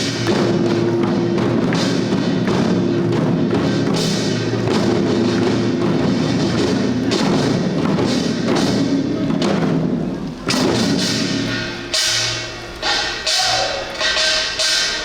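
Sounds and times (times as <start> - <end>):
barrel drums striking: 0.0 - 15.0.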